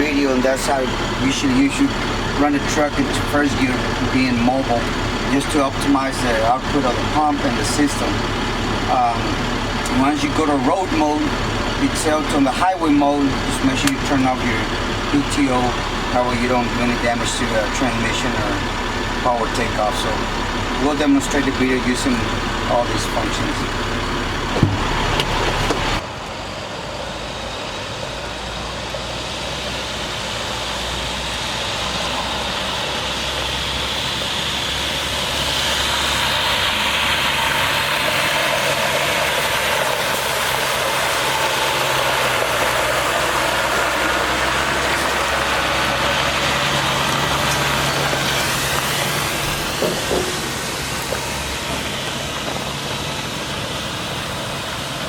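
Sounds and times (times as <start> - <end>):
diesel truck engine humming: 0.0 - 55.0.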